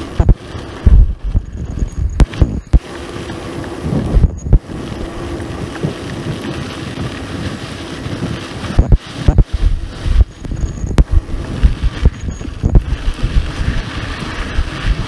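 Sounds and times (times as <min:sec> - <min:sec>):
tyres rolling on dirt: 0:00.0 - 0:15.0
wind buffeting microphone: 0:00.0 - 0:15.0.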